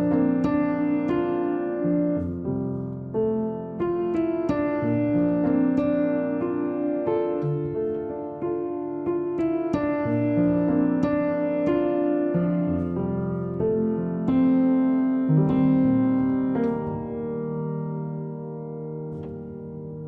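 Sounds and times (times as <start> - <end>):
soft slow piano music: 0.0 - 20.0.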